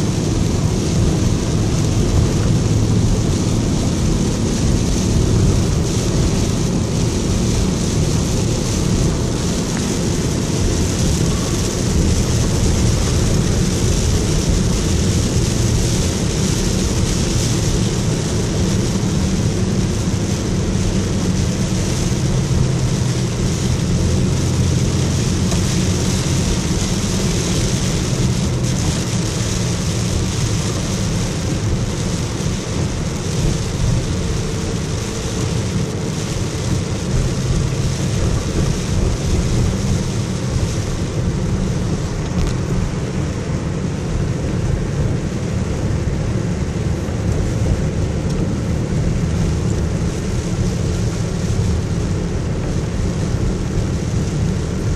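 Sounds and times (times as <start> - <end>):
car engine and road noise: 0.0 - 54.9
heavy rain hissing: 0.0 - 54.9
tyres on wet pavement: 0.0 - 54.9.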